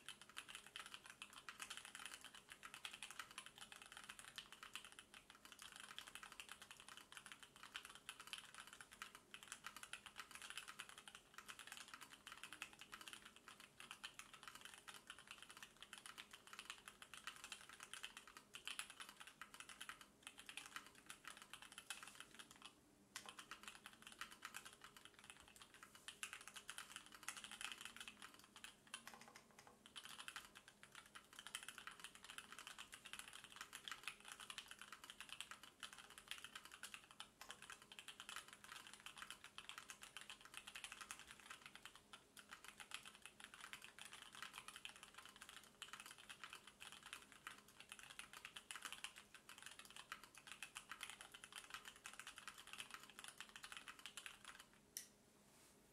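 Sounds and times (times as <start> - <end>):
fast mechanical keyboard typing: 0.0 - 54.8.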